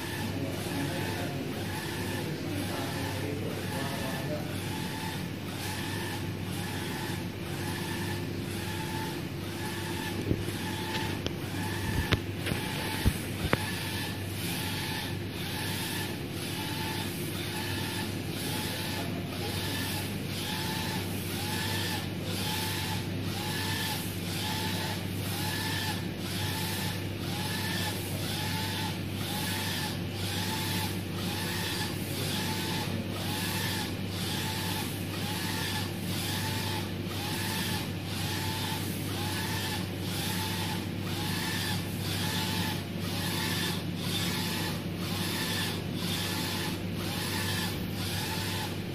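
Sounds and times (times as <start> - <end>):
printer carriage motor whine: 0.0 - 48.9.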